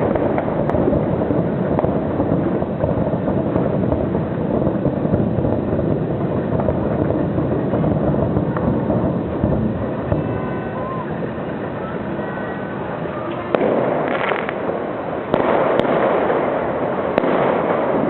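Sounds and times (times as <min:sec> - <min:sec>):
distant fireworks rumbling and crackling: 0:00.0 - 0:18.0
sharp firework bangs: 0:00.0 - 0:18.0.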